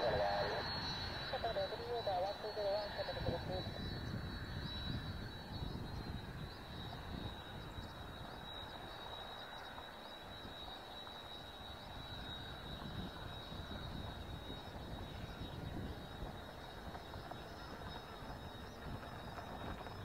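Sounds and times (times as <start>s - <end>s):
distant turboprop aircraft drone: 0.0s - 20.0s
high engine whine: 0.0s - 20.0s.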